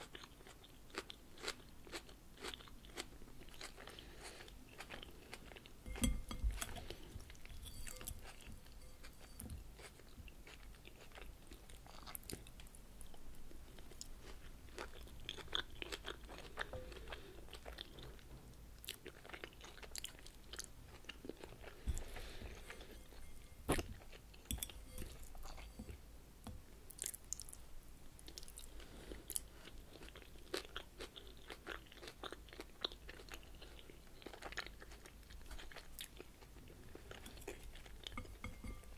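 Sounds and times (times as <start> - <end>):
chewing crunchy vegetables: 0.0 - 25.8, 26.9 - 27.6, 28.3 - 38.9.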